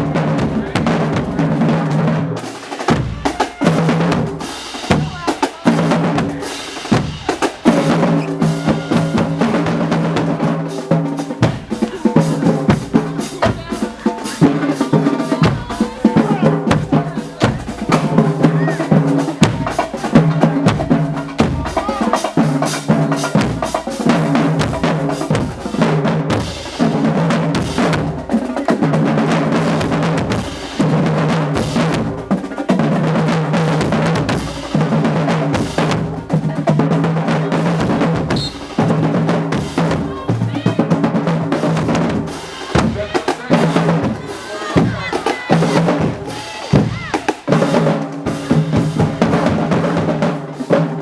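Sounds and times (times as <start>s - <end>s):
bass drums and snares: 0.0s - 51.0s.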